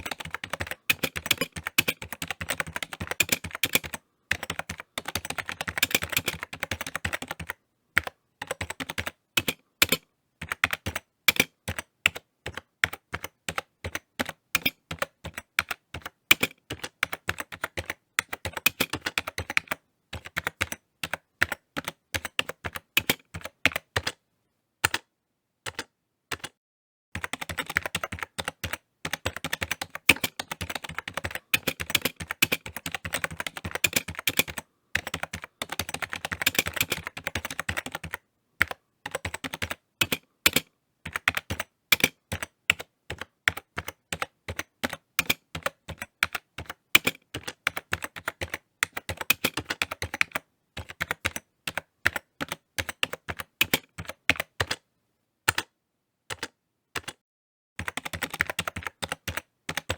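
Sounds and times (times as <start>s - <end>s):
typing on computer keyboard: 0.0s - 24.2s, 24.8s - 25.1s, 25.7s - 26.6s, 27.2s - 54.8s, 55.5s - 57.2s, 57.8s - 59.9s.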